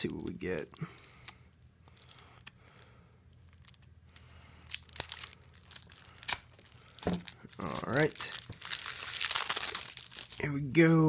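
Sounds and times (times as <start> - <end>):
plastic wrap crinkling tears: 1.0 - 10.4.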